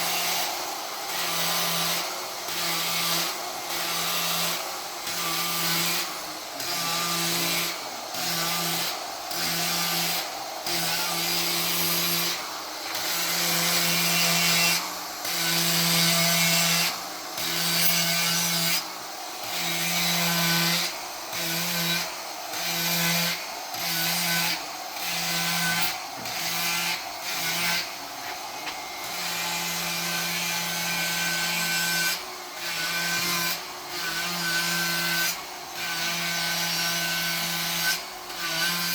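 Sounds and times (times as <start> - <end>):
carving disc grinding wood: 0.0 - 38.9
power tool motor humming: 0.0 - 38.9.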